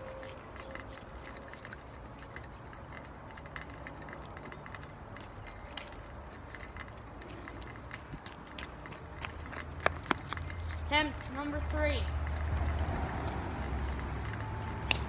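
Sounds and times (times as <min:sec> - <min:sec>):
footsteps on driveway: 0:00.0 - 0:15.0.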